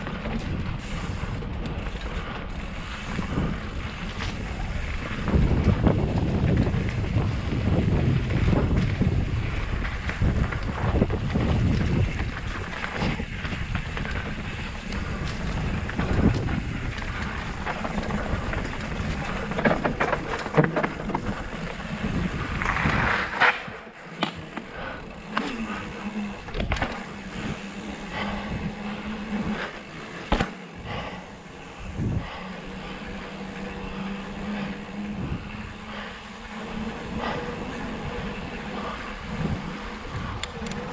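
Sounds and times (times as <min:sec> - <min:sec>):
bike tyre noise on dirt: 0:00.0 - 0:40.9
wind rushing over microphone: 0:00.0 - 0:40.9.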